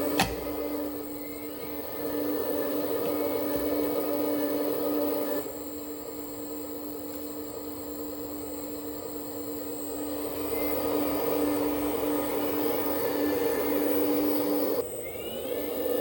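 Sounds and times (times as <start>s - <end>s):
electric hydraulic pump humming: 0.0s - 16.0s.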